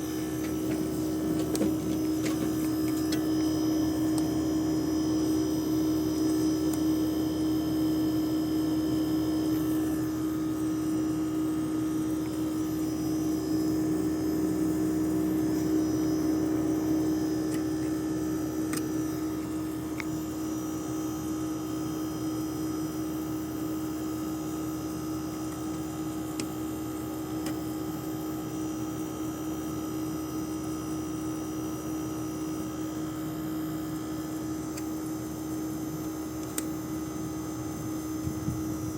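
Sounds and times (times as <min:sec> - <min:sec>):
air conditioner unit humming: 0:00.0 - 0:38.9.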